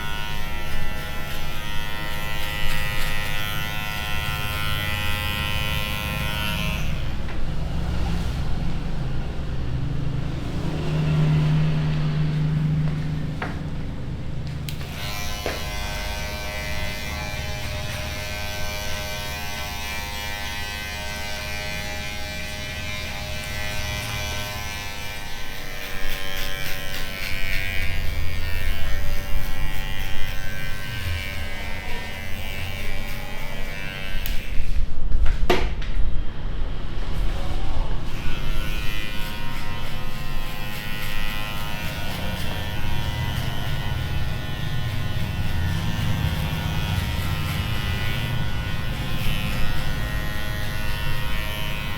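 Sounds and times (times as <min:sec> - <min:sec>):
electric hair clippers buzzing: 0:00.0 - 0:08.2, 0:09.0 - 0:34.9, 0:38.0 - 0:51.9.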